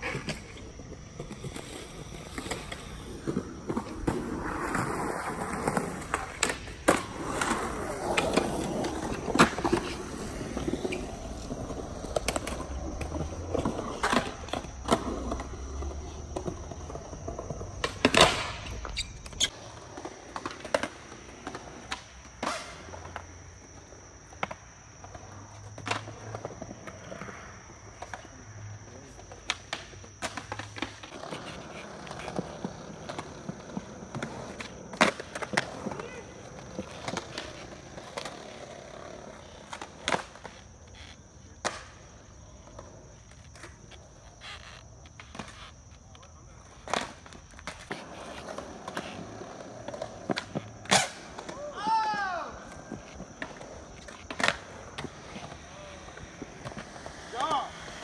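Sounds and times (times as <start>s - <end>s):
skateboard pops and clacks: 0.0s - 23.3s, 29.3s - 40.5s, 41.4s - 44.3s, 44.9s - 58.0s
skateboard wheels rolling on concrete: 0.0s - 58.0s.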